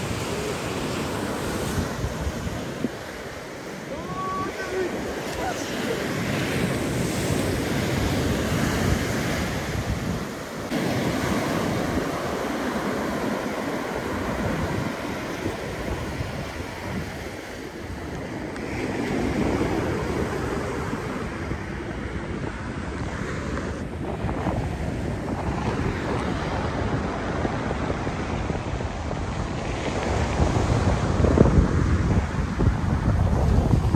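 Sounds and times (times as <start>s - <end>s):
waves breaking on beach: 0.0s - 33.9s
wind rumbling on microphone: 0.0s - 33.9s.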